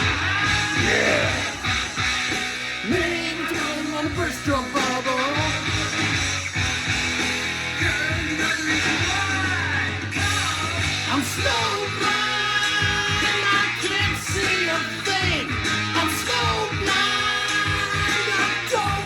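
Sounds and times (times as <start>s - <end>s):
drums: 0.0s - 19.0s
electric guitar: 0.0s - 19.0s
man singing: 0.3s - 2.0s, 2.8s - 5.9s, 7.8s - 19.0s.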